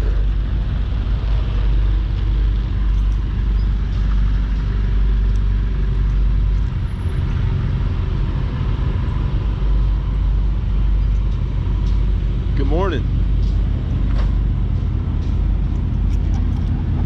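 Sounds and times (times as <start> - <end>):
car engines passing slowly: 0.0 - 17.0.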